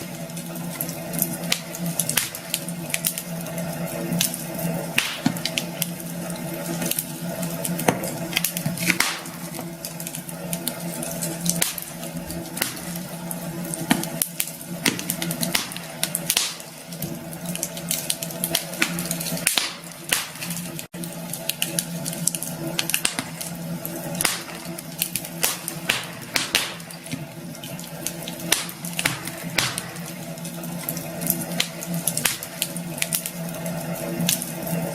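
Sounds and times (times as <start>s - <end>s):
campfire crackling and popping: 0.0s - 34.9s
low steady hum: 0.0s - 34.9s.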